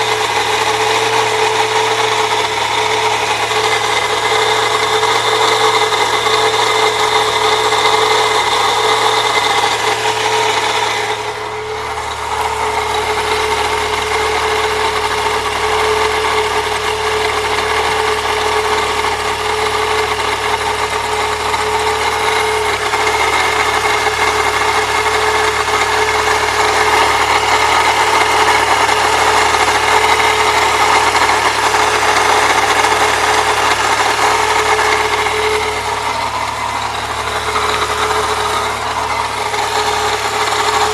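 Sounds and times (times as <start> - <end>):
car engine running: 0.0 - 40.9
grinding from belt drive: 0.0 - 40.9.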